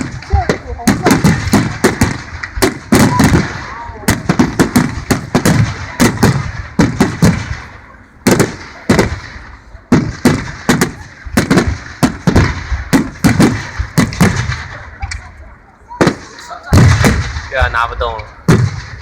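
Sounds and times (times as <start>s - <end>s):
fireworks shell bursts and crackles: 0.0s - 15.3s, 16.0s - 19.0s.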